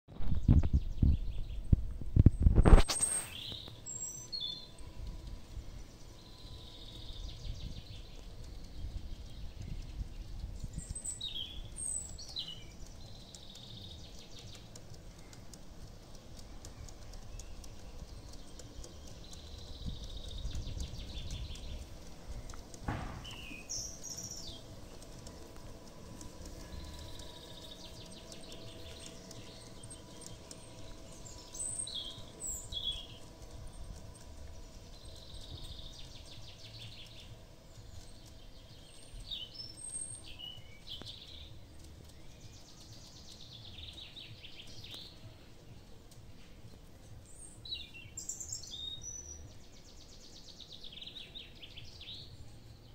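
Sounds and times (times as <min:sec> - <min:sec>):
birds chirping: 0:00.1 - 0:52.9
model train wheels clicking: 0:02.6 - 0:52.8.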